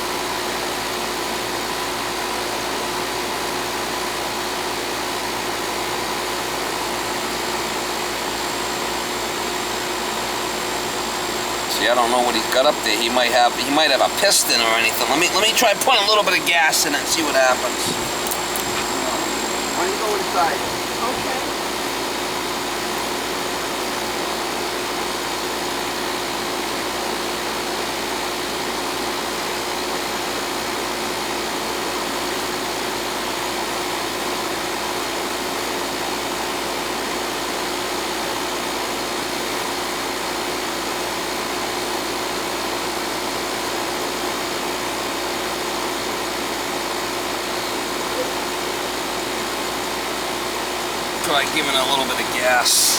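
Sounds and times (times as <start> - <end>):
air conditioner unit humming: 0.0 - 52.9.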